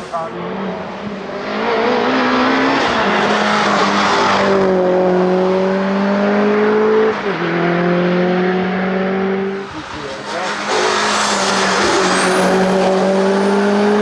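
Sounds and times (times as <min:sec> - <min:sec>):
car engine revving under load: 0:00.0 - 0:14.0.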